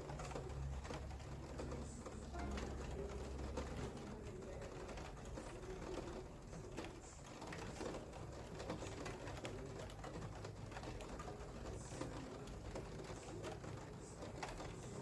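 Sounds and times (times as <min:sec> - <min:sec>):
rain pattering and dripping: 0:00.0 - 0:15.0.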